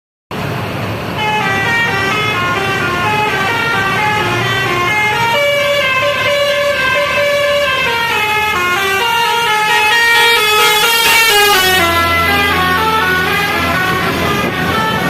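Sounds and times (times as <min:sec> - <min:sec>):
multi-tone bus horn tune: 0:01.2 - 0:15.0.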